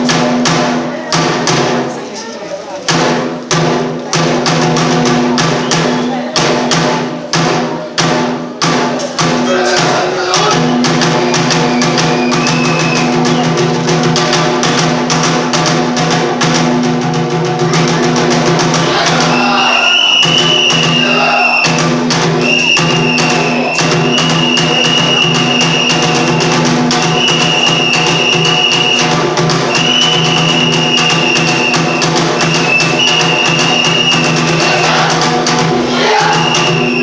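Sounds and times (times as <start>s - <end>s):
sharp drum strokes: 0.0s - 2.0s, 2.9s - 37.0s.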